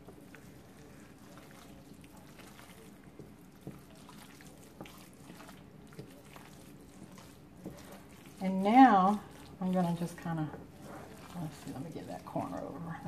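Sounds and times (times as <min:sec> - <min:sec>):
spatula scraping creamy mixture: 0:00.0 - 0:13.0.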